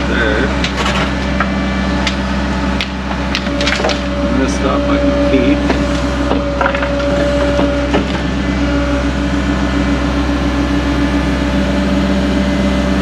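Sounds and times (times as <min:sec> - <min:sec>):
excavator engine droning: 0:00.0 - 0:13.0.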